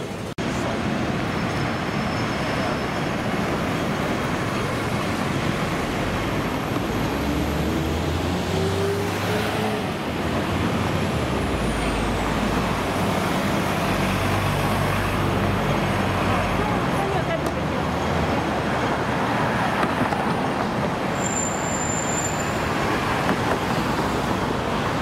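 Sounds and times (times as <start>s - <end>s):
bus and car engines running: 0.0s - 25.0s
road traffic noise: 0.0s - 25.0s.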